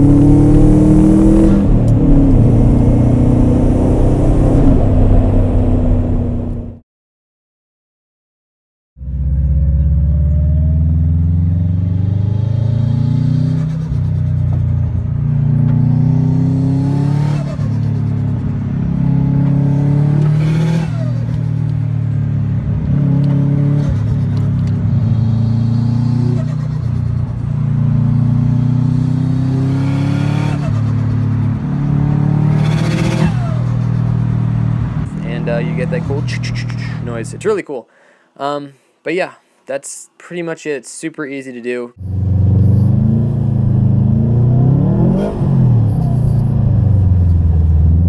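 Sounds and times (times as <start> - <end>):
car engine revving: 0.0 - 6.8, 9.0 - 37.4, 42.0 - 48.0.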